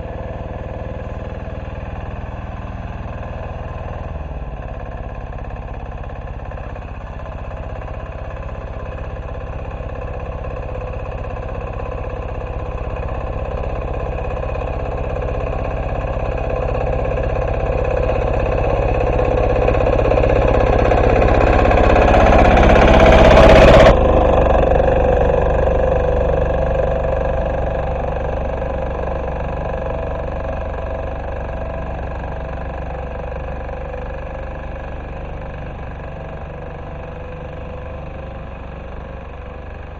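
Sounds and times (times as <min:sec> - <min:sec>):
walk-behind tractor diesel engine: 0:00.0 - 0:39.9.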